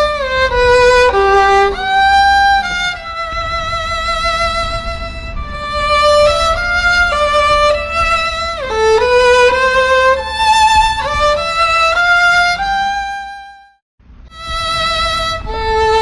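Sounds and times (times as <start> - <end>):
solo violin-like melody: 0.0 - 16.0.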